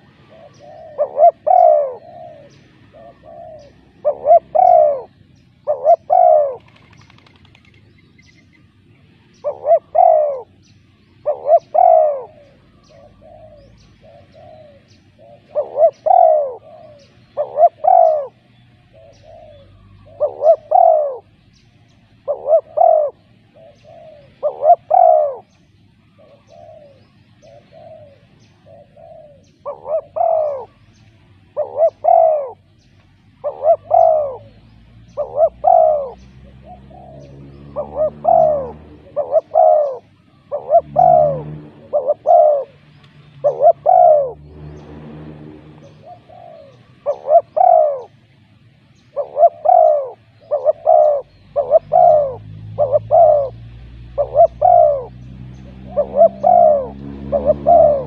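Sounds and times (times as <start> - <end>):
dove cooing: 0.0 - 8.5, 9.3 - 58.0.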